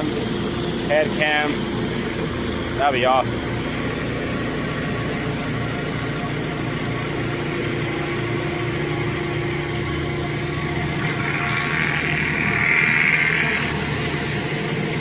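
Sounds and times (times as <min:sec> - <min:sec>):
pressure washer engine running: 0:00.0 - 0:15.0.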